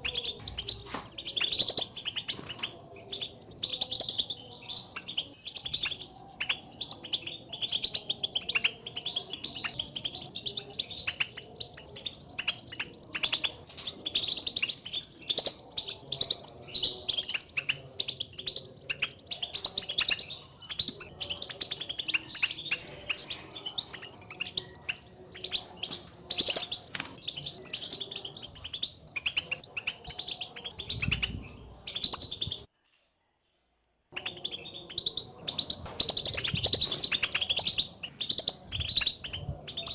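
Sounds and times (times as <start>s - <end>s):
goldfinch chirping calls: 0.0s - 32.7s, 34.2s - 39.9s.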